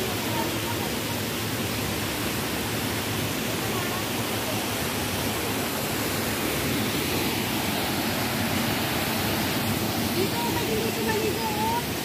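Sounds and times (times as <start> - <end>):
stream and waterfalls rushing: 0.0 - 12.0.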